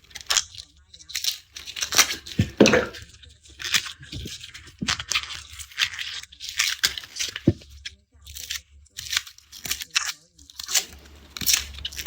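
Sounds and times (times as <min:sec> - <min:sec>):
garlic skins crackling and tearing: 0:00.0 - 0:02.8, 0:03.5 - 0:12.0.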